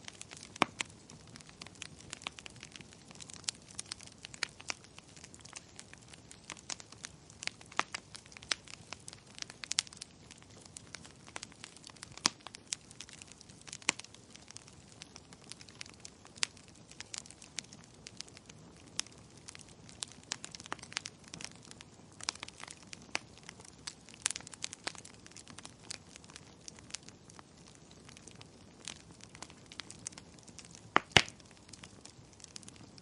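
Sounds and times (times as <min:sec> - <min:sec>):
wood fire popping and snapping: 0:00.0 - 0:33.0.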